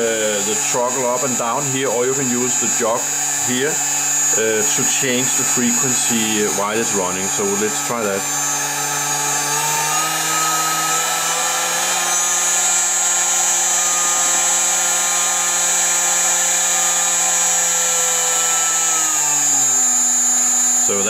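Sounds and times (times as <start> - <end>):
cooling fan noise: 0.0 - 21.0
spindle motor whine: 0.0 - 21.0.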